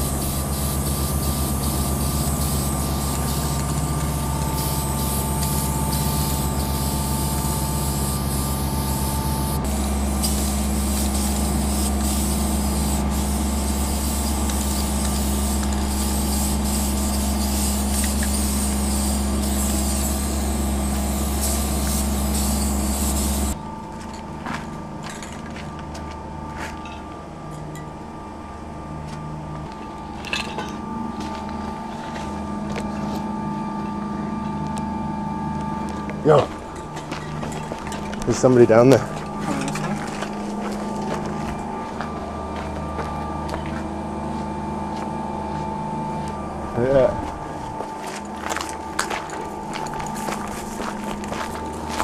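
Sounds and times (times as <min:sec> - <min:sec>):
diesel locomotive idling: 0:00.0 - 0:52.0.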